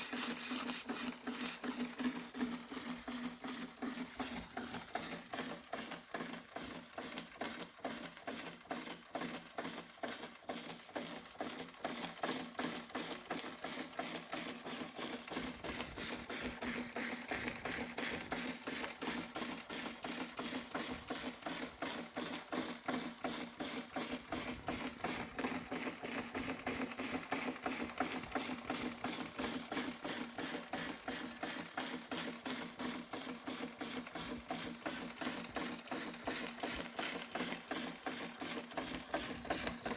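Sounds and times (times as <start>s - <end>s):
toy steam engine chuffing: 0.0s - 39.9s.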